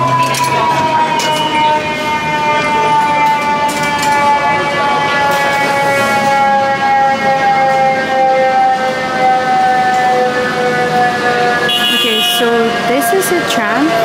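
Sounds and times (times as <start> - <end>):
cable car machinery whining: 0.0 - 14.0.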